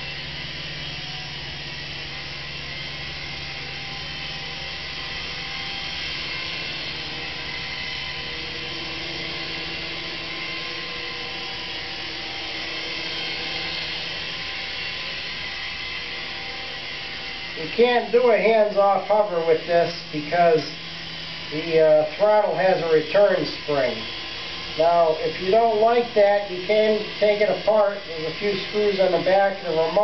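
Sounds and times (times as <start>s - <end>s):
toy helicopter high whine: 0.0s - 30.0s.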